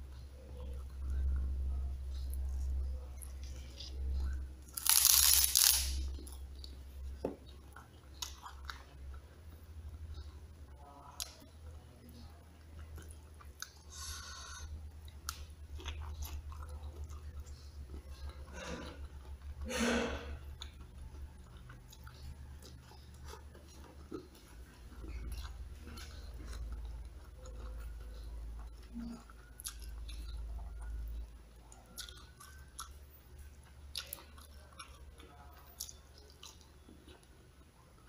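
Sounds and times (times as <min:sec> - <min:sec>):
person chewing food: 0:00.0 - 0:10.4, 0:12.2 - 0:38.0
low steady hum: 0:00.0 - 0:38.0.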